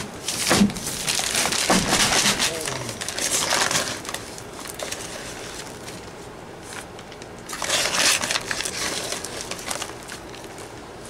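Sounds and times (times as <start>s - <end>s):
paper bag rustling and crinkling: 0.0s - 11.0s.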